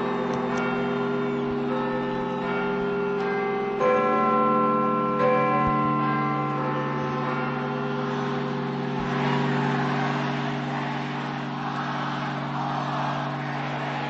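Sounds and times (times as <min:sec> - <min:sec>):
tower bells ringing: 0:00.0 - 0:14.0.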